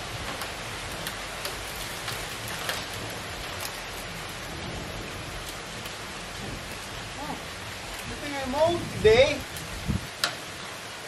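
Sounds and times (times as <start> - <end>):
hail and rain pelting down: 0.0 - 11.0
hailstones ticking: 0.0 - 11.0.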